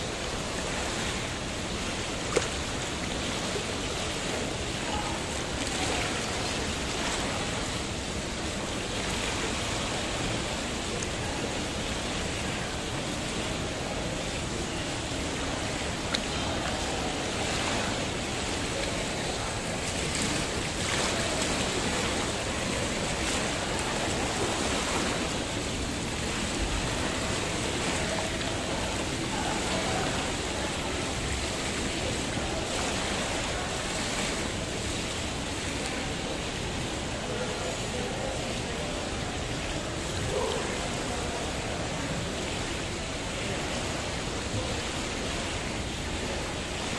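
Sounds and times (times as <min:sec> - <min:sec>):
jacuzzi water churning: 0:00.0 - 0:46.9.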